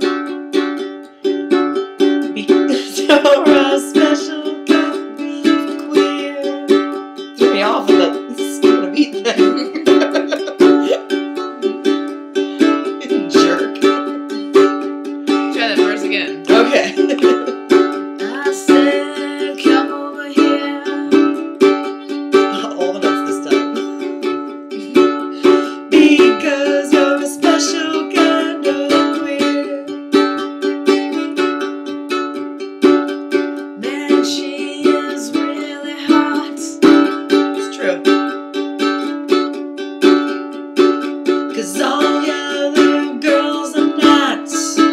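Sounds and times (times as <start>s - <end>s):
ukulele strumming chords: 0.0s - 44.9s.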